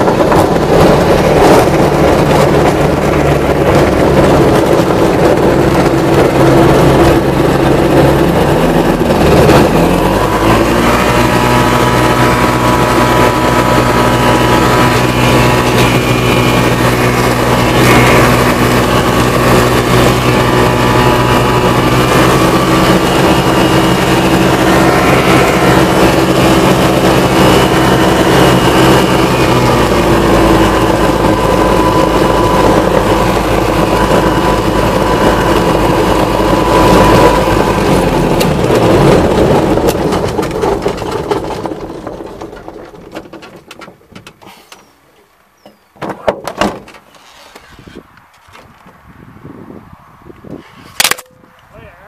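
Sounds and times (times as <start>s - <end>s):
ultralight plane engine and propeller: 0.0s - 45.8s.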